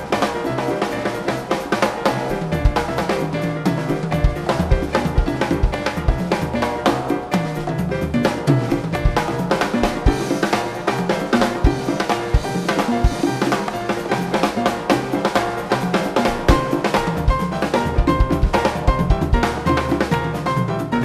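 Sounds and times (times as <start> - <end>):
drum kit played fast: 0.0 - 21.0.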